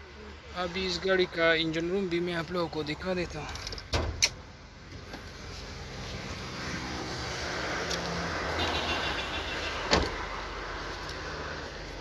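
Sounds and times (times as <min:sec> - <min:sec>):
outdoor noise: 0:00.0 - 0:12.0.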